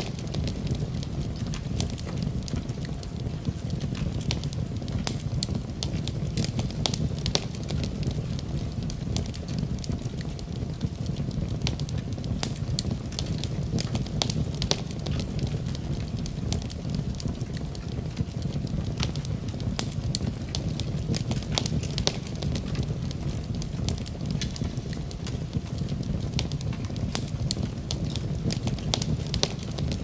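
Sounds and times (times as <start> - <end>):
falling rain: 0.0 - 30.0
wood fire crackling: 0.0 - 30.0.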